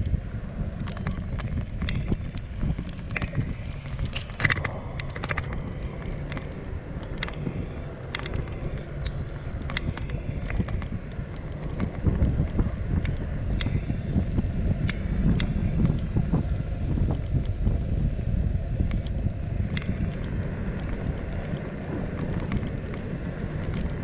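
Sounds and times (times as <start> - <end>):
longboard wheels rumbling on asphalt: 0.0 - 24.0
wind buffeting microphone: 0.0 - 24.0.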